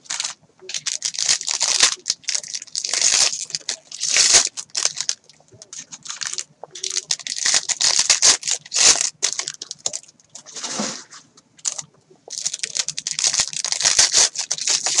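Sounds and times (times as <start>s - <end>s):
foil wrapper crinkling: 0.0s - 11.0s, 11.6s - 15.0s.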